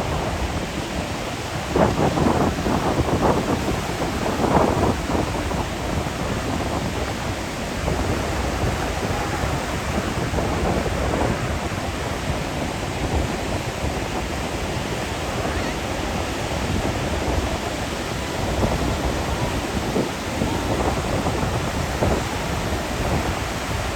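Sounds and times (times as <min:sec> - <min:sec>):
ocean surf breaking: 0:00.0 - 0:23.9
wind buffeting microphone: 0:00.0 - 0:23.9.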